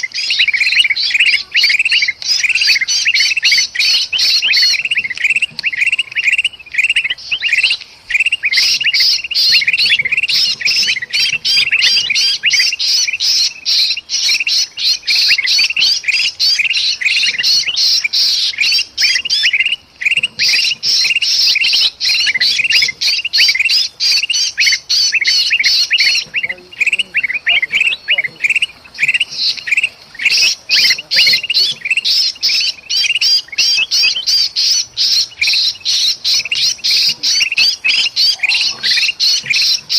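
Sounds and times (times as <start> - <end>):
bulbuls harsh chattering calls: 0.0 - 39.9.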